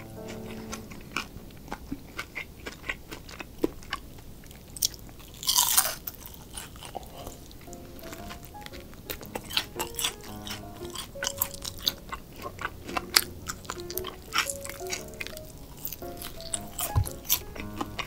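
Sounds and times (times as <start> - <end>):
chewing and crunching: 0.2 - 18.0.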